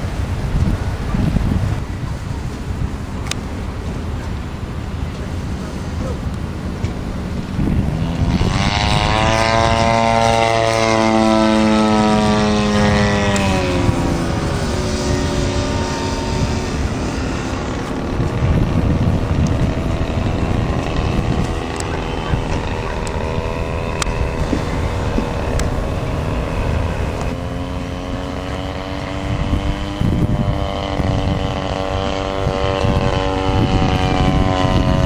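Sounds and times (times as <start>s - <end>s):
model airplane engine buzzing: 0.0s - 35.0s.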